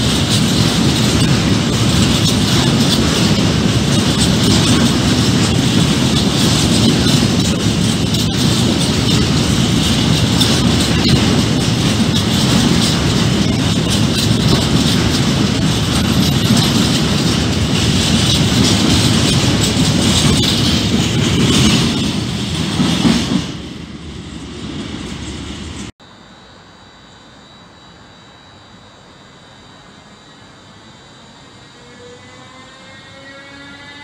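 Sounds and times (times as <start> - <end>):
freight train rolling past: 0.0 - 25.9, 29.7 - 34.0
electric locomotive humming: 0.0 - 34.0.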